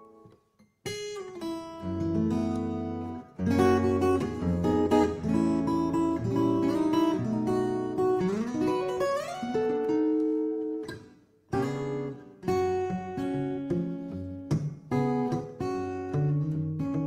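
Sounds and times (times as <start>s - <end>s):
fingerstyle acoustic guitar: 0.0s - 17.0s.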